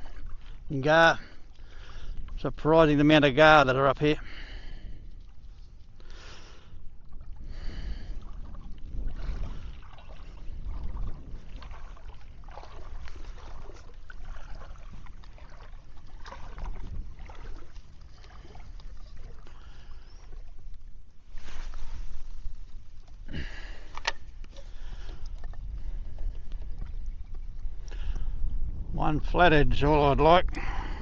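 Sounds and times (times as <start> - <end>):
shallow water sloshing and splashing: 0.0 - 31.0
wind rumbling on microphone: 0.0 - 31.0.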